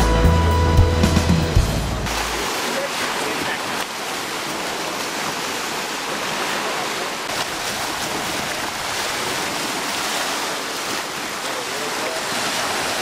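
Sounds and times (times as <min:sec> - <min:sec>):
small waves lapping and splashing: 0:02.0 - 0:13.0.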